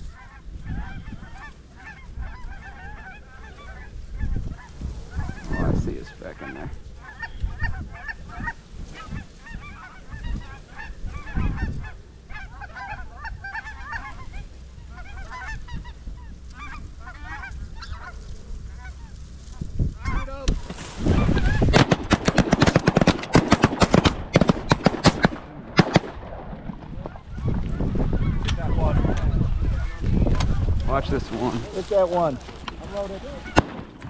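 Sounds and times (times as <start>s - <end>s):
geese honking: 0.0s - 34.0s.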